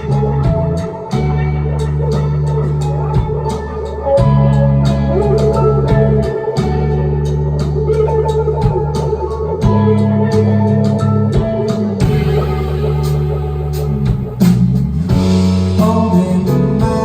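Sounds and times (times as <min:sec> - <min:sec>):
bass guitar long notes: 0:00.0 - 0:17.0
electric guitar: 0:00.0 - 0:17.0
keyboard: 0:00.0 - 0:17.0
steady drum beat: 0:00.0 - 0:17.0.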